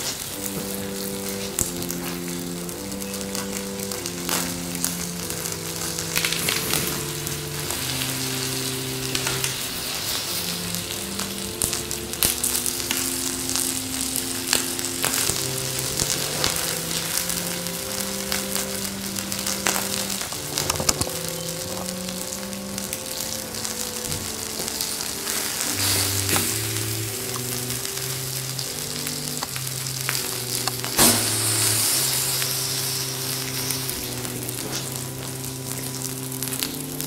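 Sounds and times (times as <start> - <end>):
burning plastic crackling: 0.0 - 37.0
fire popping: 0.0 - 37.0
soft melody of held notes: 0.0 - 37.0.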